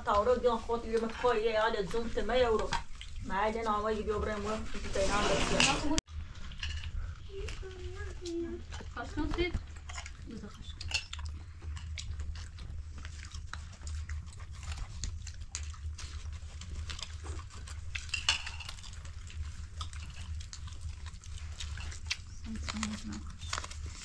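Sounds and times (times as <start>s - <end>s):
crunching and chewing: 0.1s - 3.3s, 6.1s - 24.0s.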